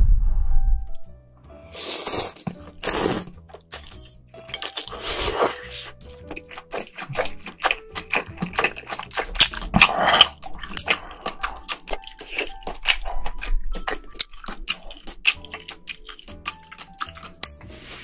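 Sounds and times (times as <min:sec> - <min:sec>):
wet chewing mouth sounds: 0:02.0 - 0:17.6.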